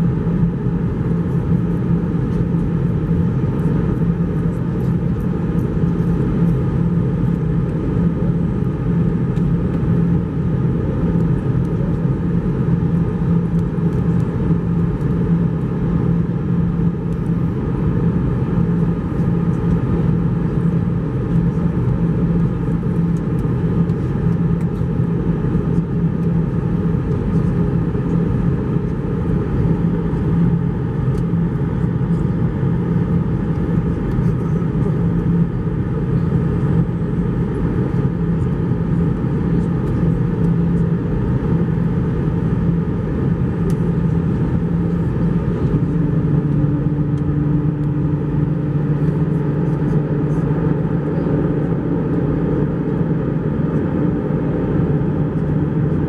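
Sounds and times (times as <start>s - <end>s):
jet engine and airflow drone: 0.0s - 56.0s.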